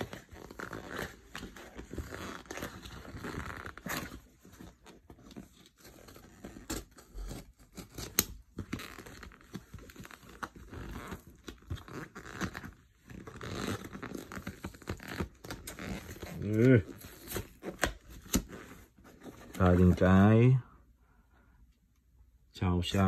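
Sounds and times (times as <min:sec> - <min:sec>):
envelope rustling and crinkling: 0:00.0 - 0:20.1.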